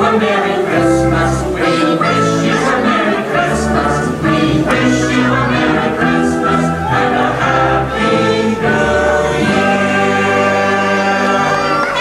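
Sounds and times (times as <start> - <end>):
choir singing with orchestra: 0.0 - 12.0.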